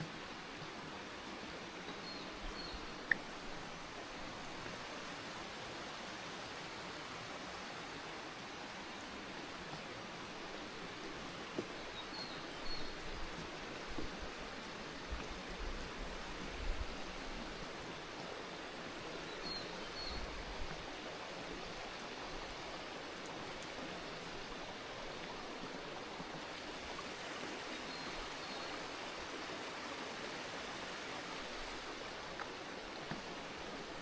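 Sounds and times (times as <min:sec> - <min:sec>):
stream running water: 0:00.0 - 0:34.0.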